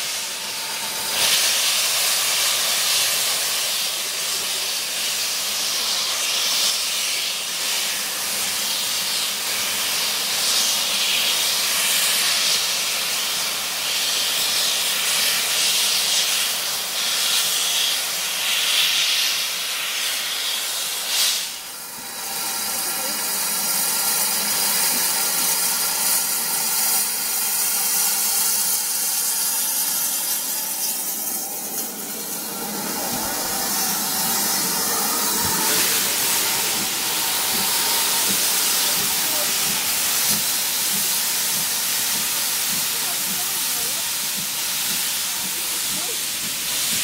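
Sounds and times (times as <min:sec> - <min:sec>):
steam hissing loudly: 0:00.0 - 0:47.0.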